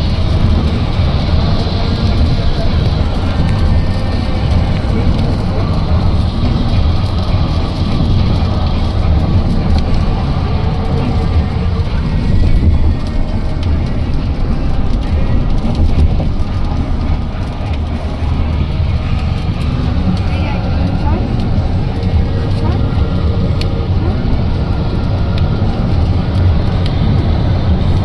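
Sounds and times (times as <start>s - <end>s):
heavy rain drumming on car: 0.0s - 28.0s
steady low rumble: 0.0s - 28.0s.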